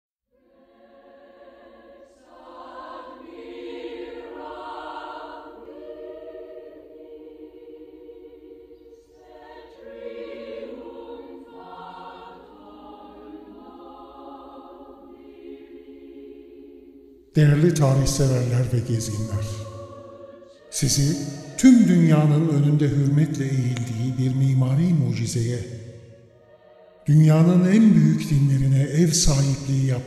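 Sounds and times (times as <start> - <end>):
choir singing slow chant: 0.3 - 30.0.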